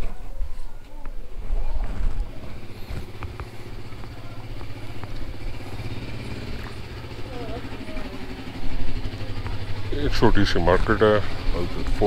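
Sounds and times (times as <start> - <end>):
vehicle engine idling: 2.0 - 12.0.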